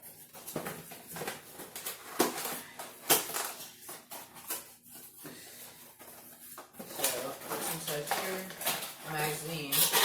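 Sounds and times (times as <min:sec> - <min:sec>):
packaging rustling: 0:00.0 - 0:10.0.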